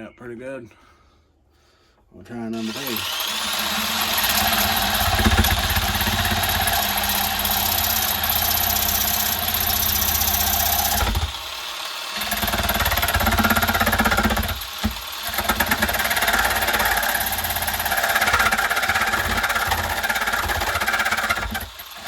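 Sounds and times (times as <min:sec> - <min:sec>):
power tool whining and grinding: 0:02.5 - 0:22.0.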